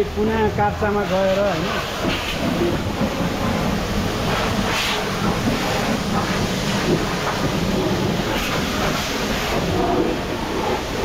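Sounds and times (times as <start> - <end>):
high-pressure water jet spraying: 0.0 - 11.0.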